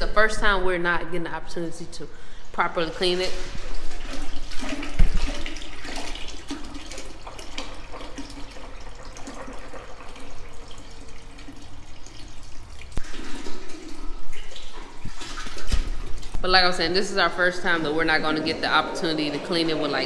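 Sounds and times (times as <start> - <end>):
liquid pouring into toilet bowl: 2.2 - 20.0.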